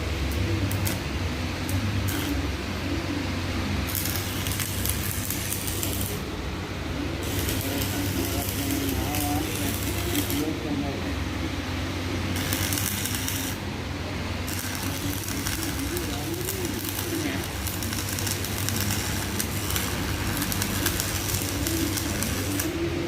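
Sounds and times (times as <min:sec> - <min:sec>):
welding arc crackling sizzle: 0:00.0 - 0:10.7, 0:11.4 - 0:23.0
electrical hum: 0:00.0 - 0:23.0.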